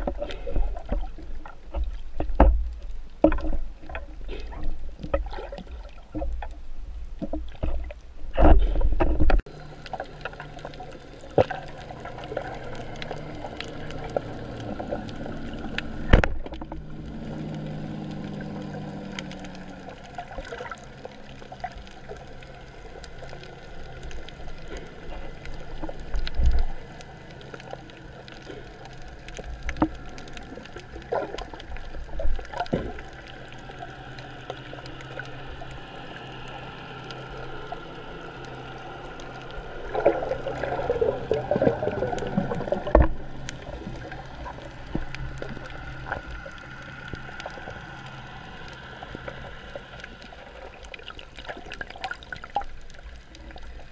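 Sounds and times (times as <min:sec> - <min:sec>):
crackling clatter: 0:00.0 - 0:53.9
low underwater hum: 0:00.0 - 0:53.9.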